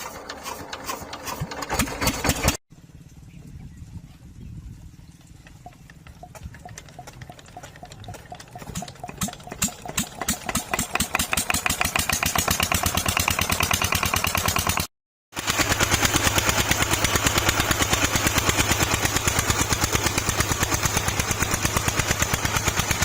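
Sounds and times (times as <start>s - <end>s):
diesel engine starting and running: 0.0s - 2.9s, 5.4s - 23.0s.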